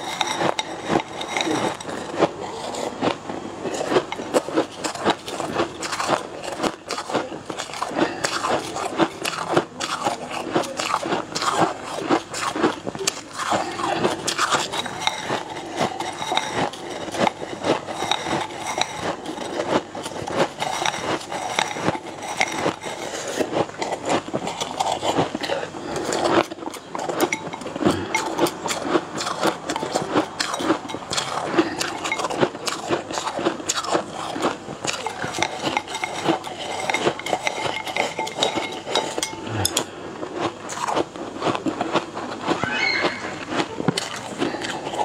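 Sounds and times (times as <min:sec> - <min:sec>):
slurping and chewing: 0:00.0 - 0:45.0.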